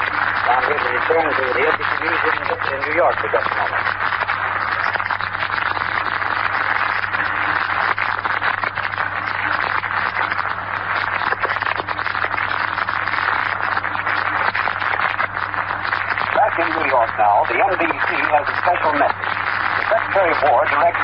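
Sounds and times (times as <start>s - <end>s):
low hum: 0.0s - 21.0s
radio static hiss and crackle: 0.0s - 21.0s.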